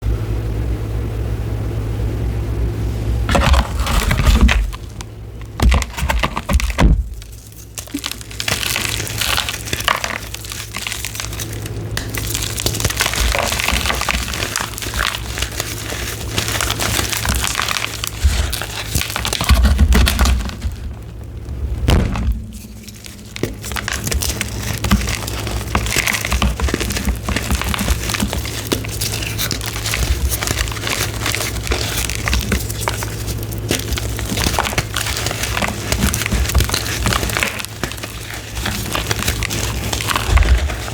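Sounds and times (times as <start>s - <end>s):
chalk crunching and crackling: 3.3s - 40.9s.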